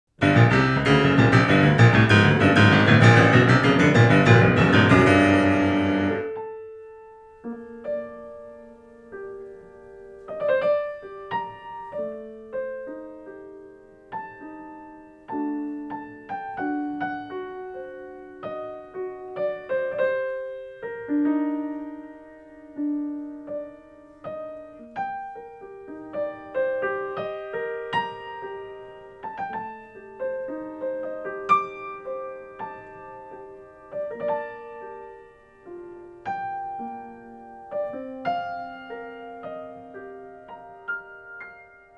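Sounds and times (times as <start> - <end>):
piano music: 0.1 - 41.9.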